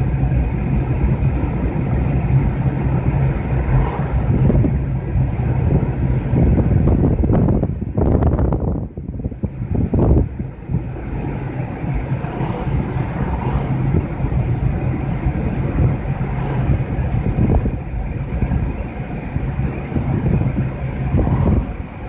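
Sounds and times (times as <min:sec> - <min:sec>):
car engine hum: 0:00.0 - 0:22.0.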